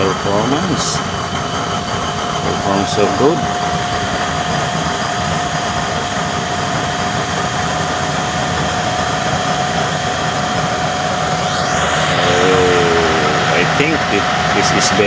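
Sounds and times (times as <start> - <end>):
electric blower whining: 0.0 - 15.0.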